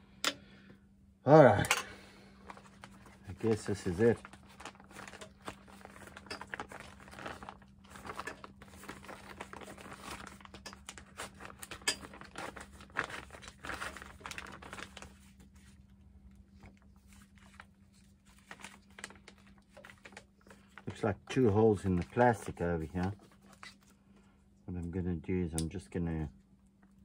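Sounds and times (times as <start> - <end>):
plastic crinkling and rustling: 2.3 - 24.2.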